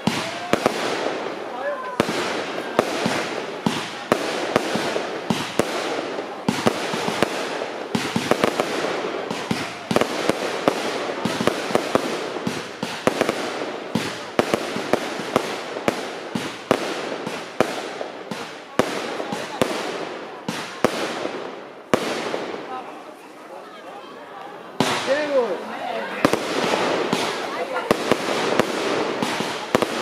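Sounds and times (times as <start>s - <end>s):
firework bangs: 0.0s - 23.1s, 24.6s - 30.0s
fireworks crackling: 0.0s - 30.0s.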